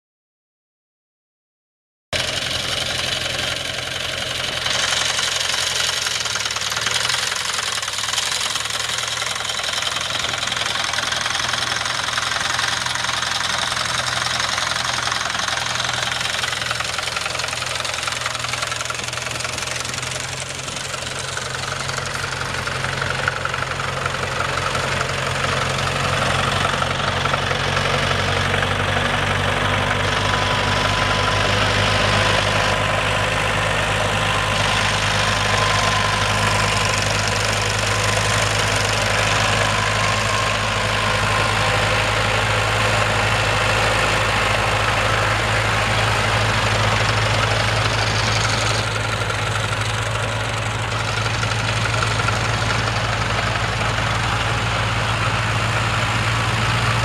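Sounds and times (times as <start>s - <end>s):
tractor diesel engine running: 2.1s - 57.0s.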